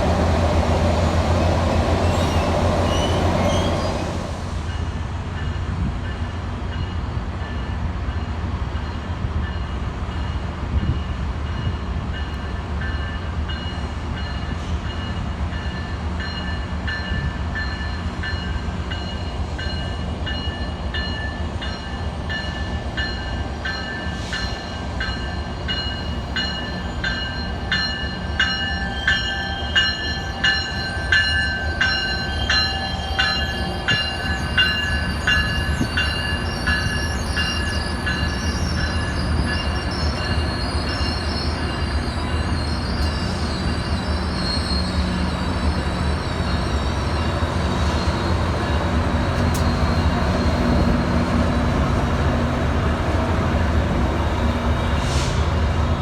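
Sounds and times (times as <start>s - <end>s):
low rumble of train: 0.0s - 56.0s
train bell ringing: 4.7s - 53.2s.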